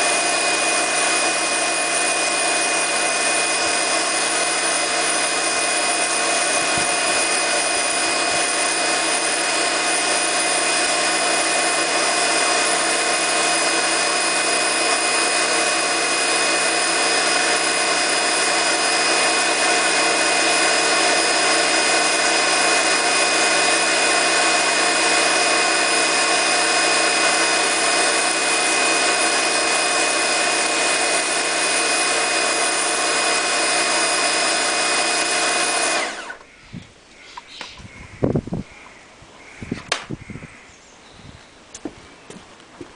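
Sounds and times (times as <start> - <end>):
pressure washer whine: 0.0 - 36.5.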